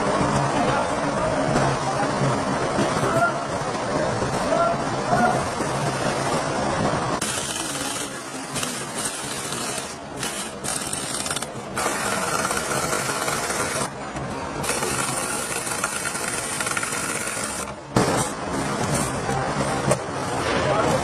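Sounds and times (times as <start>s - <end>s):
machinery clattering and whirring: 0.0s - 21.0s.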